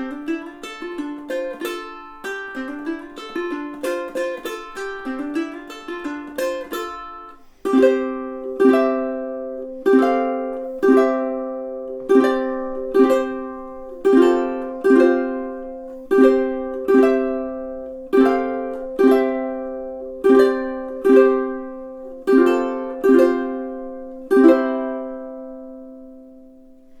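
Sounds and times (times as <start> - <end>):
ukulele picking and strumming: 0.0 - 27.0.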